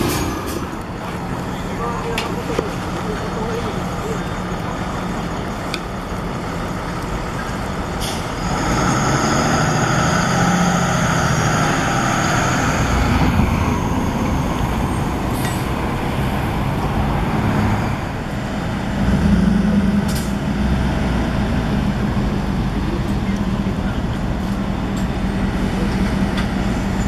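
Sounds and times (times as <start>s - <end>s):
truck driving past: 0.0s - 27.0s.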